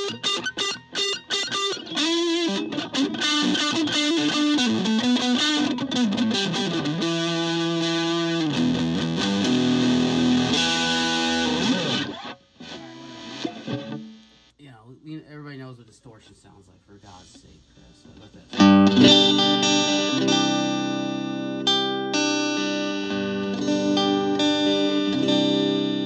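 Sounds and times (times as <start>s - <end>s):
electric guitar playing: 0.0s - 14.5s, 18.5s - 26.0s.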